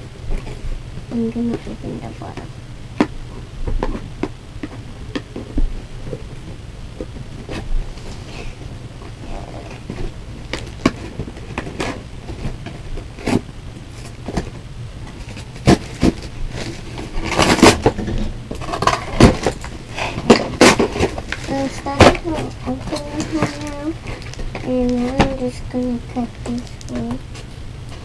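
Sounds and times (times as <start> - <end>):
packaging rustling: 3.7 - 27.5.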